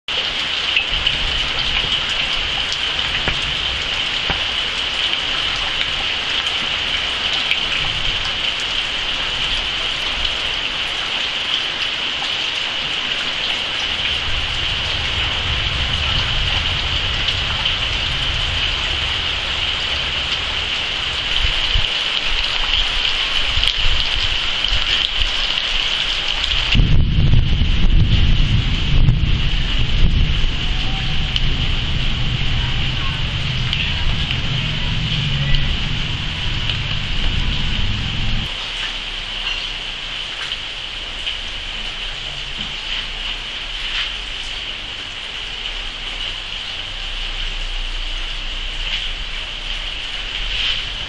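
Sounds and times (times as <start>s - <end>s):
rain on foliage: 0.1s - 51.0s.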